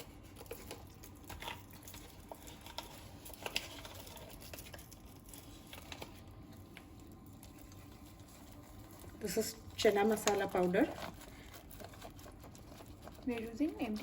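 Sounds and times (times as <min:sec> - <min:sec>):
spice packets crinkling: 0:00.0 - 0:14.0.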